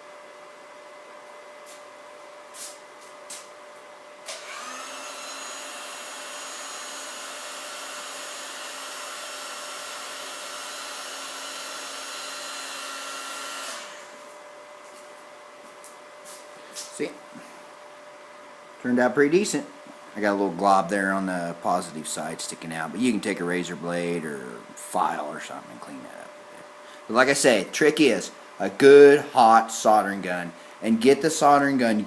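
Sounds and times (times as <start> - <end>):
heat gun fan whining: 1.4 - 32.0.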